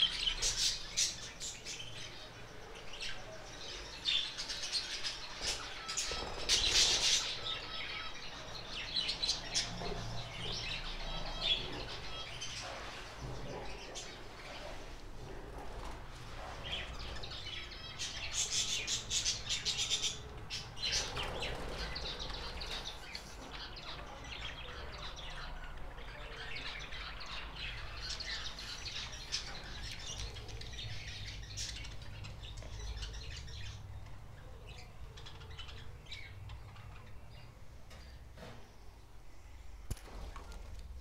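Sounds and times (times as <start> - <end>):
caged birds chirping: 0.0 - 41.0.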